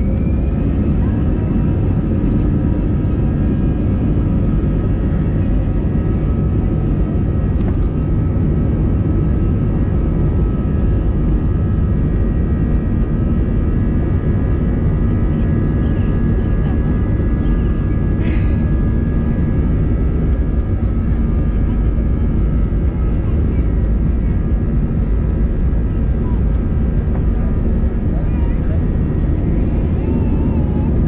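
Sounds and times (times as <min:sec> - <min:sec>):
high engine whine: 0:00.0 - 0:31.0
jet engines rumbling: 0:00.0 - 0:31.0.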